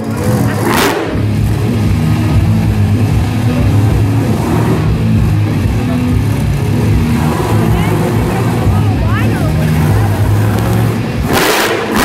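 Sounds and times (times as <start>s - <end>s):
monster truck engine running: 0.0s - 12.0s
loud burst of noise: 0.4s - 12.0s
music over loudspeakers: 1.9s - 12.0s.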